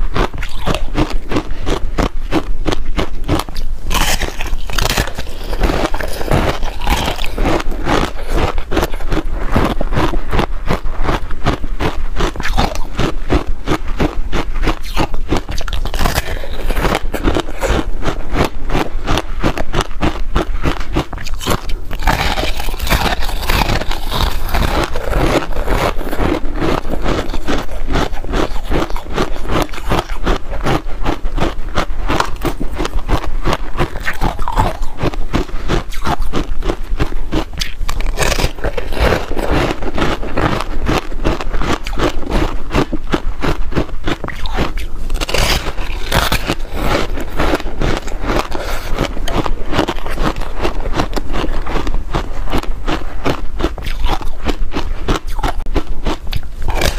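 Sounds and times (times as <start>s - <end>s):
teeth crunching ice: 0.0s - 56.9s.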